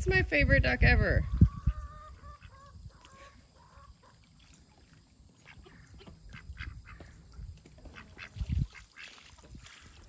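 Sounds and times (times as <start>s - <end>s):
ducks calling: 1.0s - 10.0s.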